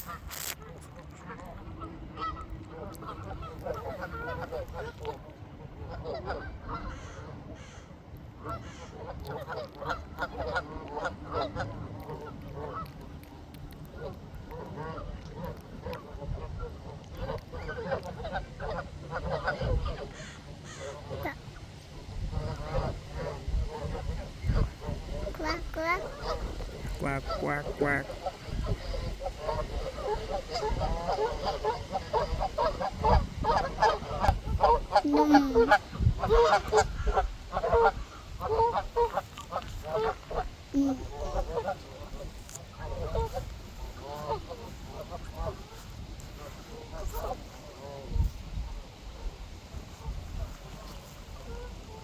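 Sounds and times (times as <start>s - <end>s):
flock of ducks quacking: 0.0s - 13.0s, 13.9s - 52.0s.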